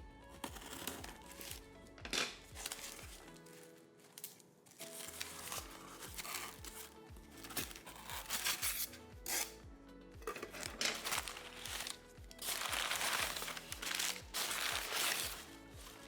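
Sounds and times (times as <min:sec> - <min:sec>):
background music with steady beat: 0:00.0 - 0:16.0
packaging crinkling and tearing: 0:02.2 - 0:09.5, 0:10.3 - 0:16.0.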